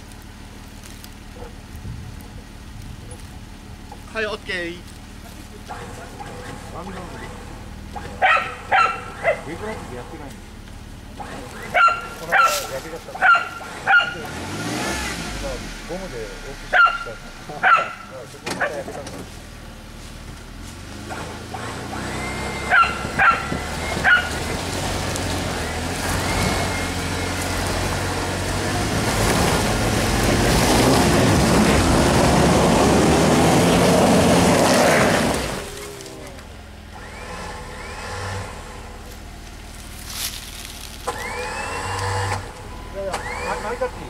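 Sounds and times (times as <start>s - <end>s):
winch and engine under load: 5.4s - 19.3s, 20.7s - 44.0s.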